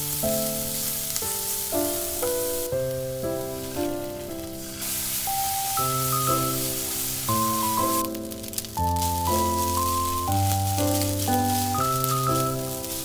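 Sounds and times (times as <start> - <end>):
background music with melody: 0.0 - 13.0
vegetables sizzling in a pan: 0.0 - 13.0.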